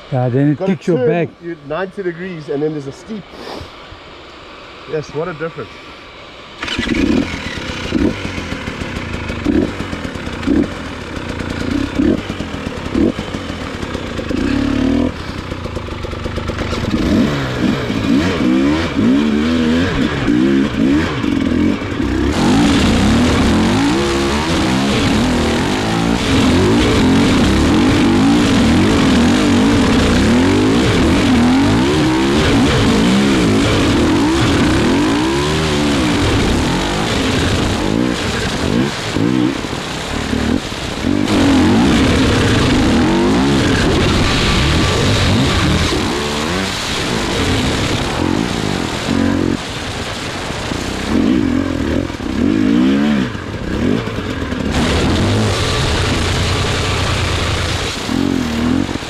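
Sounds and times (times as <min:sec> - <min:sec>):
motorcycle engine revving: 0:06.6 - 0:59.0.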